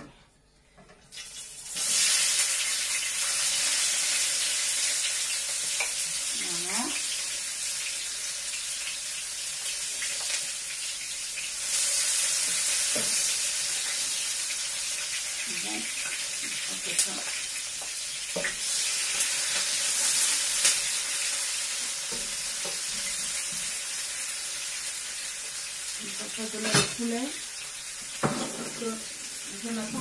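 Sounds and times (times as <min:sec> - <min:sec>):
onions sizzling in frying pan: 0:01.1 - 0:30.0.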